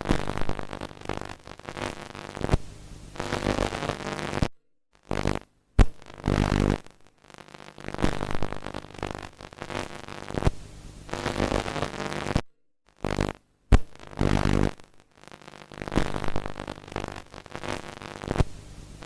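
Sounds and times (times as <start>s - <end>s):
static hiss: 0.0s - 4.5s, 5.1s - 12.4s, 13.1s - 19.0s.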